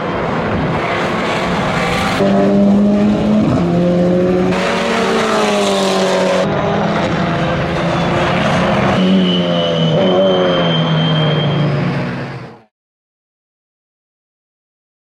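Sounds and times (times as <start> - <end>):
race car engine accelerating: 0.2 - 12.5.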